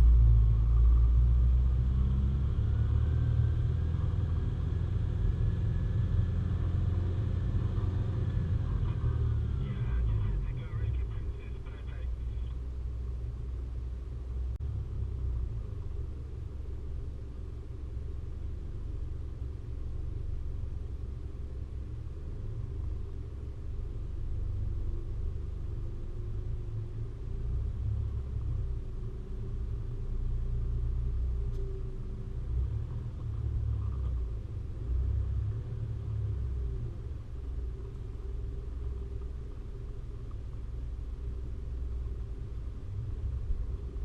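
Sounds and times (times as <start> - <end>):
vehicle driving rumble: 0.0 - 44.0.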